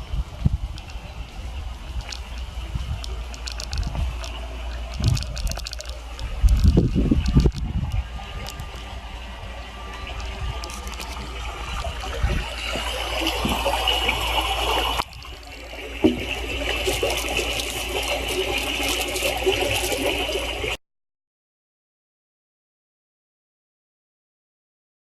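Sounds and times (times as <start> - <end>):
running water through small speaker: 0.0 - 20.8.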